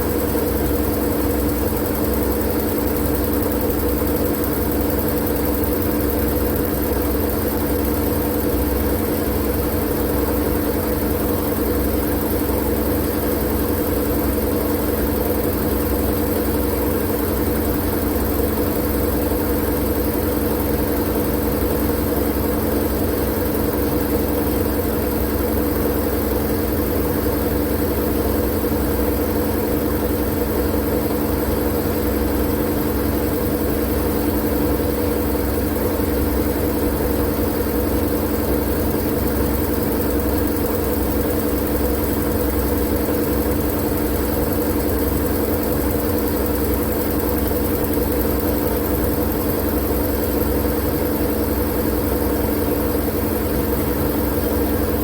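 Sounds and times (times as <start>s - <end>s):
machine-like hum: 0.0s - 55.0s.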